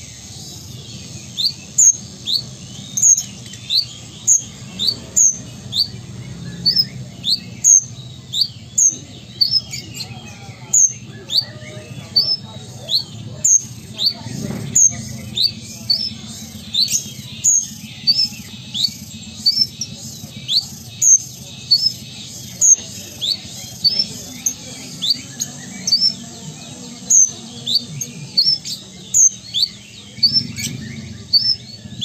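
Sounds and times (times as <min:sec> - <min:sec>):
sunbird chirping song: 0:00.0 - 0:32.0.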